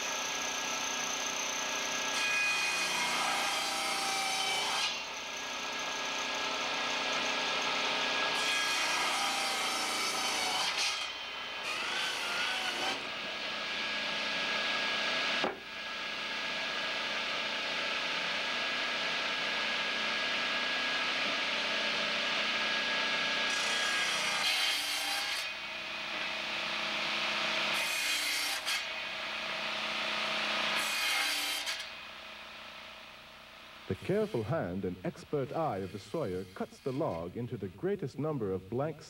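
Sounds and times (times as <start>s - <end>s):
circular saw cutting wood: 0.0s - 17.1s, 19.6s - 32.2s, 33.9s - 37.5s.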